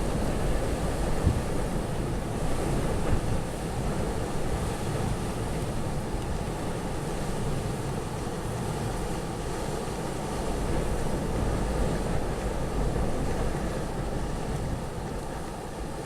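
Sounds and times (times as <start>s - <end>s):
gusting storm wind: 0.0s - 16.0s
wind rumble on microphone: 0.0s - 16.0s.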